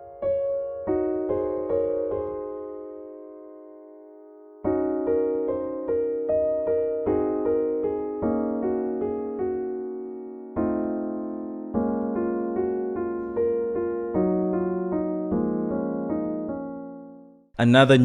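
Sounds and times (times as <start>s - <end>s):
piano playing slow chords: 0.0s - 17.5s.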